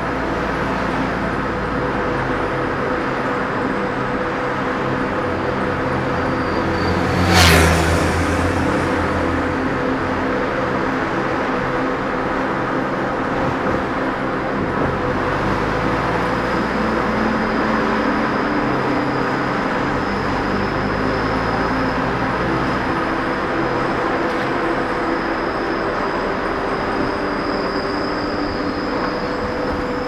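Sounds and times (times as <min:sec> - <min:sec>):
train motor humming: 0:00.0 - 0:30.0
train wheels rumbling: 0:00.0 - 0:30.0.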